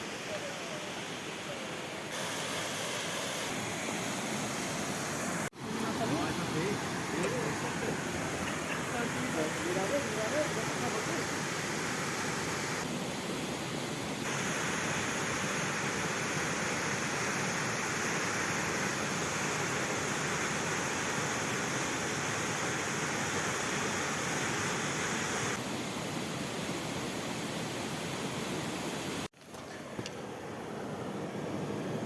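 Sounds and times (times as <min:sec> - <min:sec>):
river and waterfall rushing: 0:00.0 - 0:29.3.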